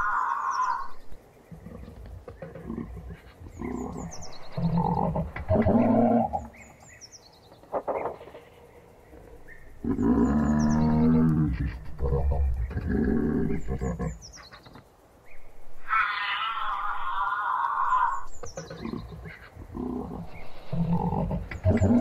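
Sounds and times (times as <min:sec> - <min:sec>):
faint high bird chirps: 0:00.0 - 0:01.5, 0:02.4 - 0:19.5.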